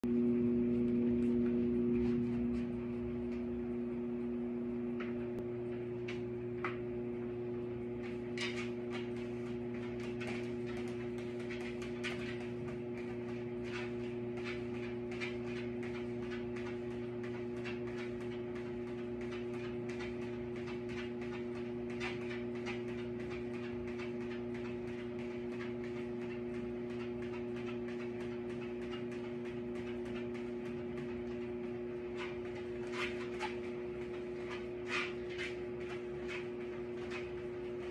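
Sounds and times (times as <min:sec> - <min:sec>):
treadmill motor humming: 0:00.1 - 0:37.9.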